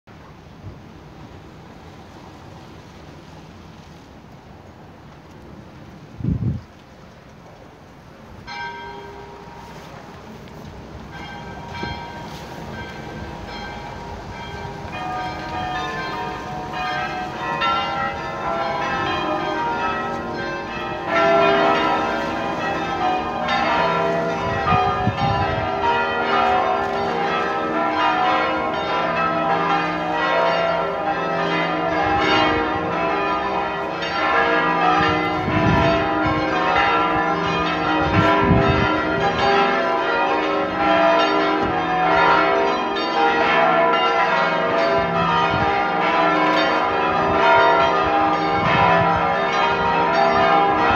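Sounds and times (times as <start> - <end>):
church bells ringing together: 8.4 - 50.9.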